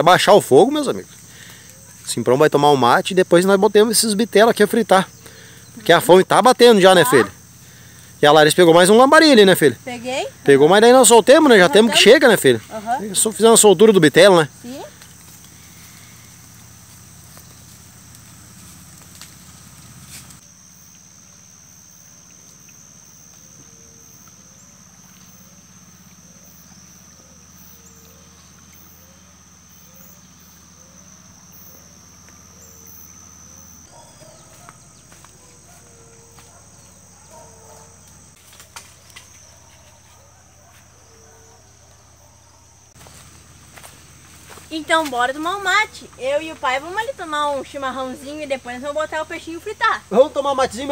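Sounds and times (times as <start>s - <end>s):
insects droning high-pitched: 0.0s - 50.9s.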